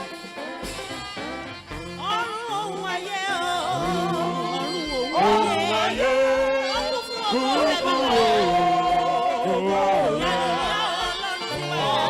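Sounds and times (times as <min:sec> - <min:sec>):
instrumental music with brass: 0:00.0 - 0:12.0.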